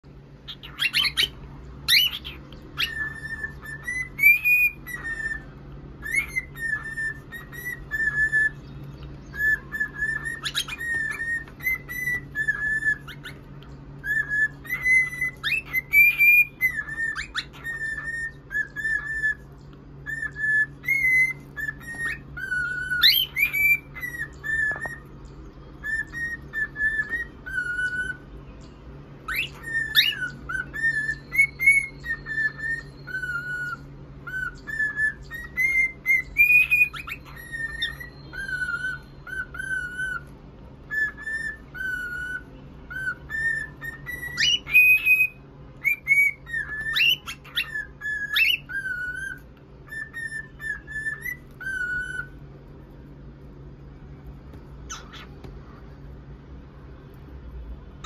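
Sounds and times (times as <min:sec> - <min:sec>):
bird chirps: 0:00.0 - 0:57.3
cockatiel whistling a tune: 0:00.4 - 0:28.4, 0:29.2 - 0:53.0, 0:54.5 - 0:55.8.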